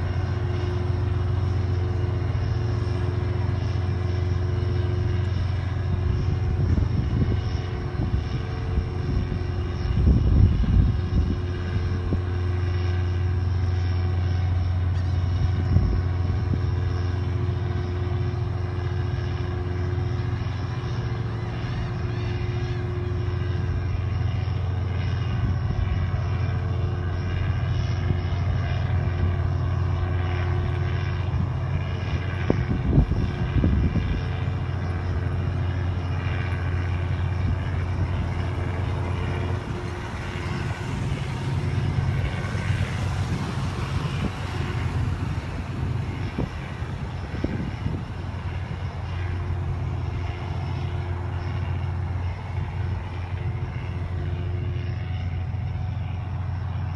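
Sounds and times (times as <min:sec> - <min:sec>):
low engine drone: 0:00.0 - 0:56.9.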